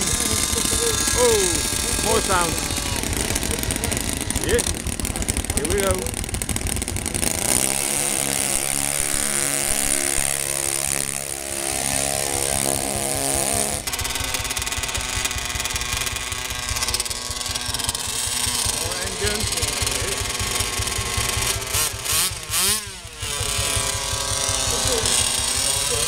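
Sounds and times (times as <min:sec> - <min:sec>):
small engines running hard: 0:00.0 - 0:26.0
steady engine on test stand: 0:00.0 - 0:26.0.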